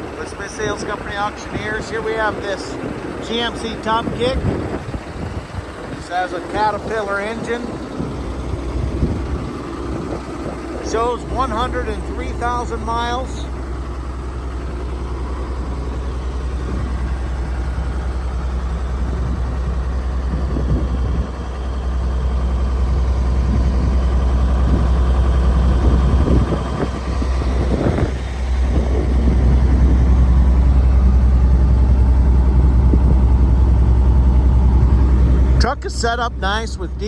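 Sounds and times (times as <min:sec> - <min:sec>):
diesel truck engine rumbling: 0:00.0 - 0:37.0.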